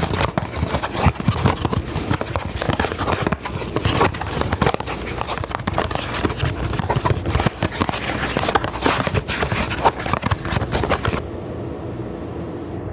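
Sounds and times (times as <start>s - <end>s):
crackling and scratching on microphone: 0.0s - 11.2s.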